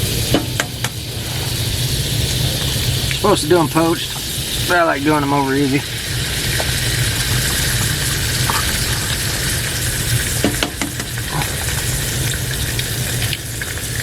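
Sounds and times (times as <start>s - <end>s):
eggs sizzling in a pan: 0.0s - 14.0s.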